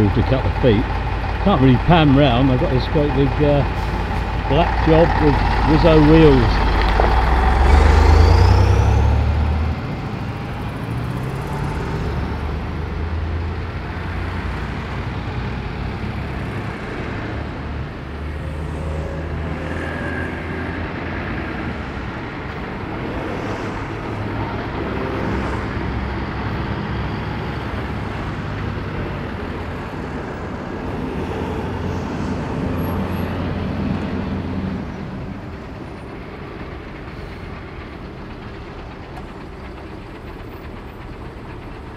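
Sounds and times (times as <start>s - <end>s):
lorry diesel engine rumble: 0.0s - 41.9s
road traffic passing: 0.0s - 41.9s.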